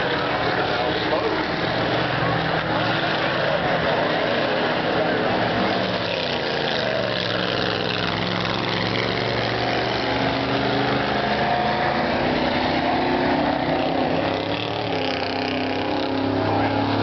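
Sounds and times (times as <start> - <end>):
racing vehicle engines: 0.0 - 17.0.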